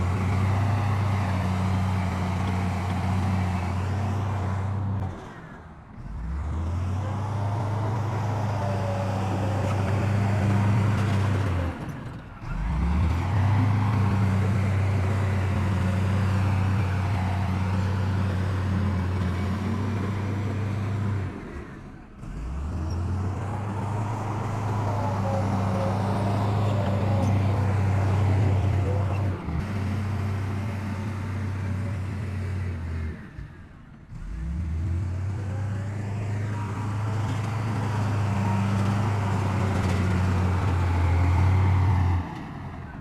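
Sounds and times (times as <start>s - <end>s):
heavy diesel engine droning: 0.0s - 43.0s.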